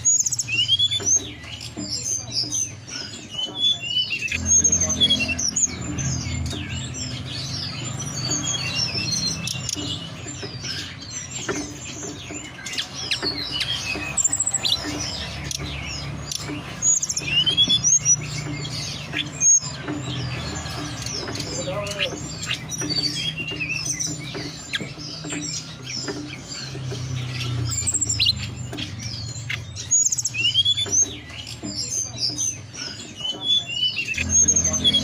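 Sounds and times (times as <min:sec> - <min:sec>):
songbirds chirping and twittering: 0:00.0 - 0:35.0.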